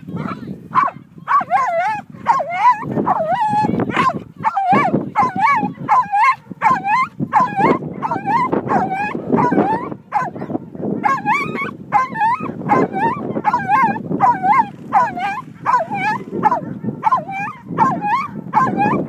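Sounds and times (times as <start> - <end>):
dog yipping and whining: 1.3 - 19.0.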